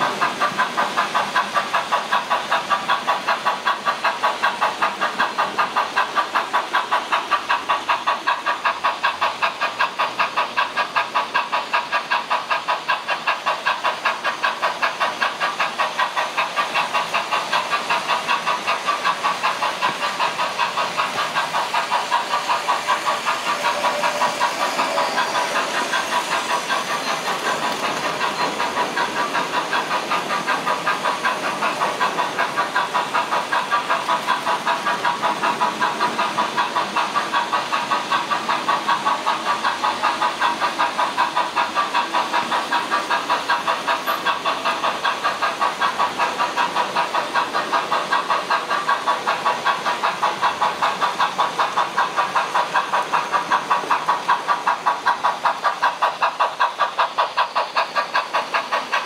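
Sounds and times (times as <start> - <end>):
model steam locomotive chuffing: 0.0 - 59.0.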